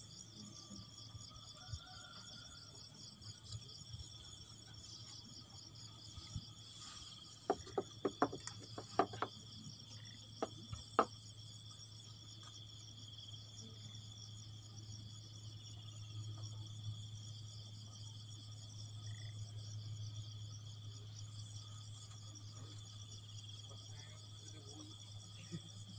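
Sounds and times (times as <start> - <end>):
insects chirring: 3.4 - 25.9.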